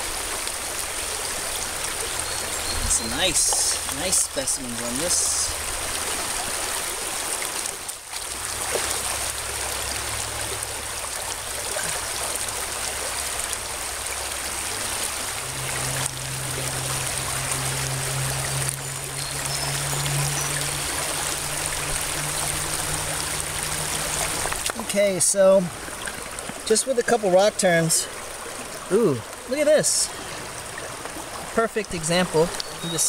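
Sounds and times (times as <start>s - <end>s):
stream running over rocks: 0.0s - 33.0s
water trickling off rock: 0.0s - 33.0s.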